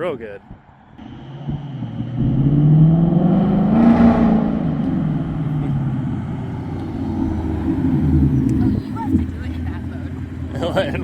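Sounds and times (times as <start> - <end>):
car engine driving past: 0.8 - 11.0.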